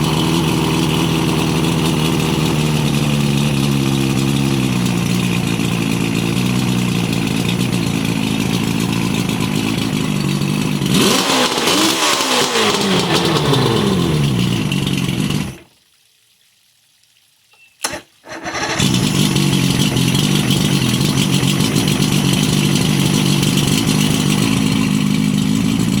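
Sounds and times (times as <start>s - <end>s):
outboard engine running: 0.0s - 15.7s, 18.3s - 26.0s.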